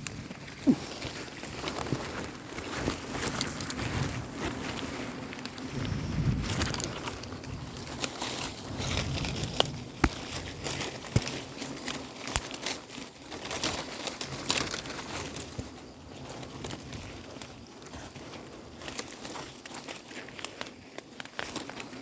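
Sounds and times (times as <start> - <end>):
dry leaves crackling and rustling: 0.0 - 22.0.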